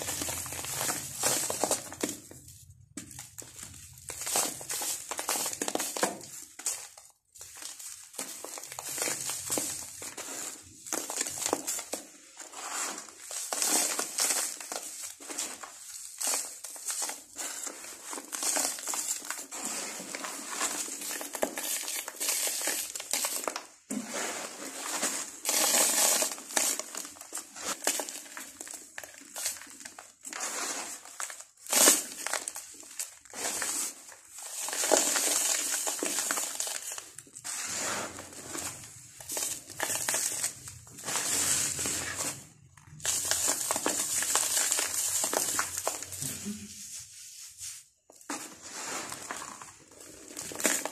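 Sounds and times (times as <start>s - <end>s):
dry cement crunching by hand: 0.0s - 46.7s, 48.3s - 50.9s.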